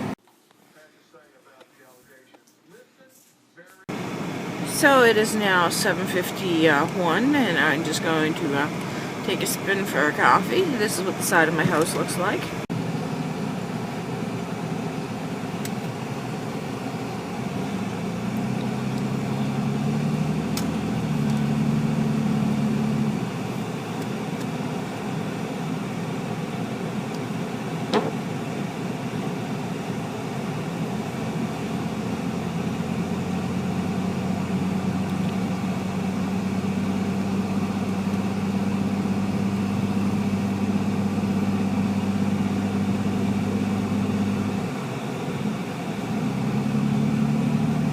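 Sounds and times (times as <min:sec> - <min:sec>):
car engine running: 0:03.9 - 0:47.9.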